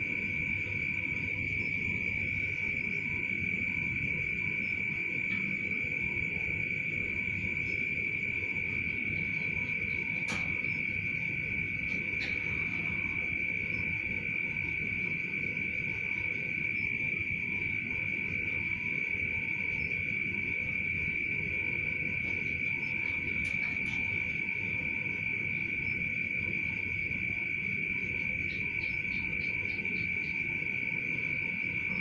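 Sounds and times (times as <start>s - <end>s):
high-pitched insect-like tone: 0.0s - 32.0s.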